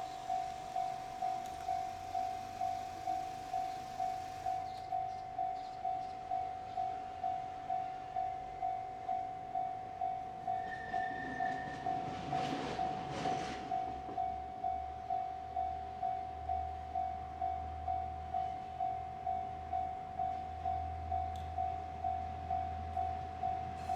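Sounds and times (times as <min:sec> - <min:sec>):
level-crossing warning bell: 0:00.0 - 0:23.9.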